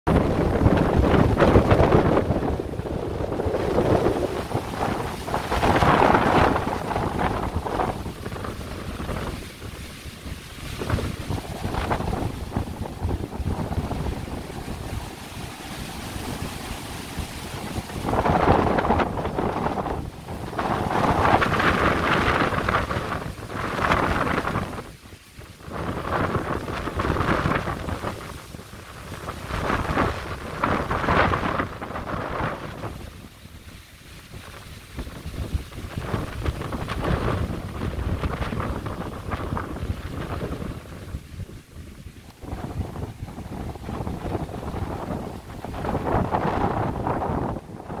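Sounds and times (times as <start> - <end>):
storm-force wind gusting: 0.0 - 48.0
wind buffeting the microphone: 0.0 - 48.0.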